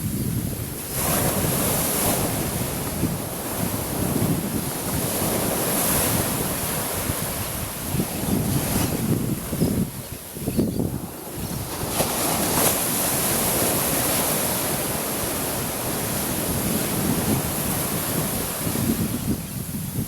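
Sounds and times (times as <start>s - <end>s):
ocean surf washing onto beach: 0.0s - 20.0s
wind buffeting microphone: 0.0s - 20.0s.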